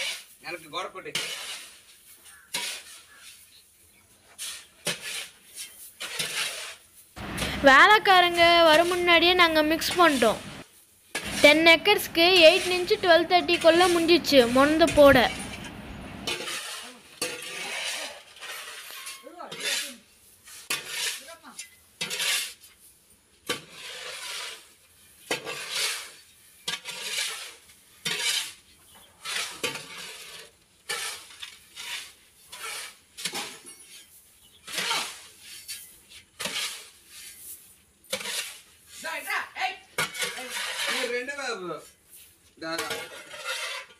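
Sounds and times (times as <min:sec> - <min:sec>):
shovels scraping concrete: 0:00.0 - 0:43.9.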